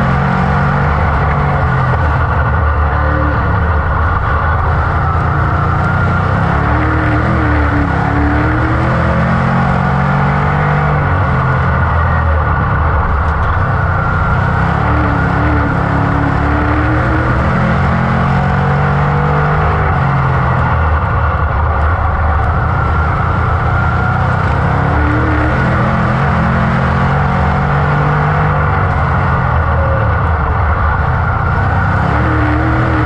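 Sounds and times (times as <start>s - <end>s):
race car engine running hard: 0.0s - 33.0s.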